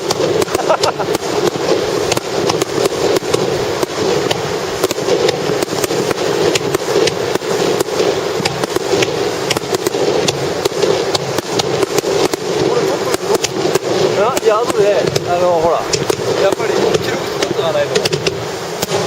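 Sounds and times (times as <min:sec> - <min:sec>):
fireworks bangs and crackles: 0:00.0 - 0:19.0
steady rumble: 0:00.0 - 0:19.0.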